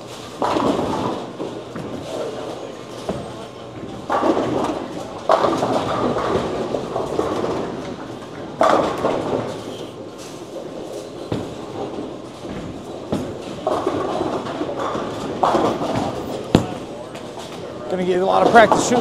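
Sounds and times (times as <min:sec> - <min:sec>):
bowling balls rolling: 0:00.0 - 0:19.0
bowling pins crashing: 0:00.1 - 0:17.6, 0:18.2 - 0:19.0.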